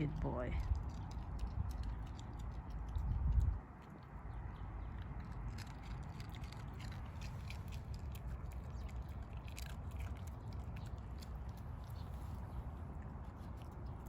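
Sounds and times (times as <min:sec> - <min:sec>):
dog chewing a treat: 0:00.0 - 0:14.0
low steady background hum: 0:00.0 - 0:14.0.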